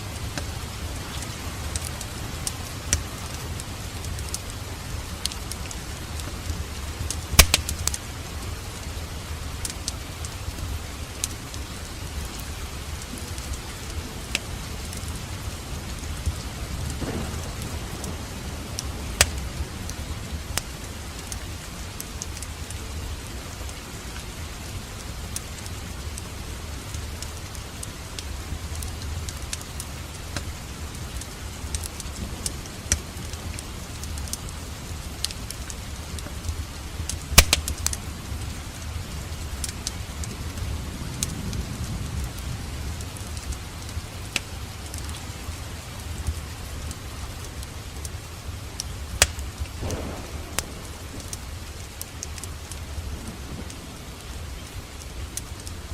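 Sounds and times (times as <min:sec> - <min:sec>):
low rumble of flames: 0:00.0 - 0:55.9
wood fire crackling and popping: 0:00.1 - 0:55.9.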